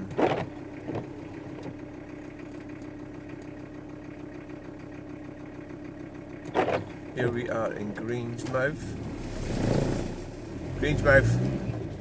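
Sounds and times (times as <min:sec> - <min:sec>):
van engine and road drone: 0:00.0 - 0:12.0.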